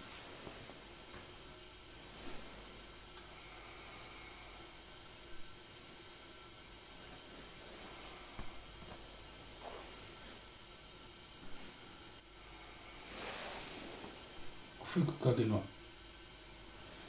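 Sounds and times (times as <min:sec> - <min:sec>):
kettle simmering with hiss: 0:00.0 - 0:17.0.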